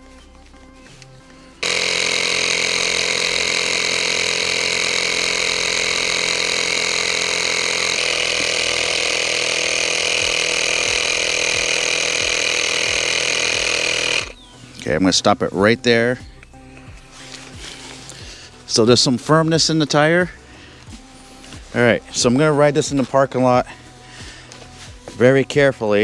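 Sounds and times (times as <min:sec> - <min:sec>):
electric tire inflator drone: 0:00.0 - 0:14.6, 0:16.3 - 0:25.0.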